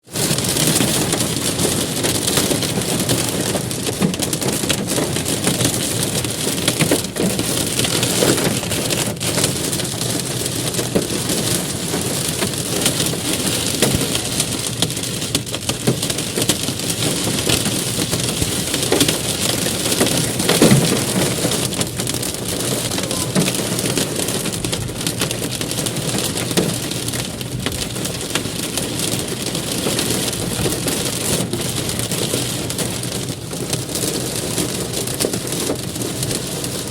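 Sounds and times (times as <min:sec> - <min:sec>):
hail and rain clattering: 0:00.1 - 0:36.9.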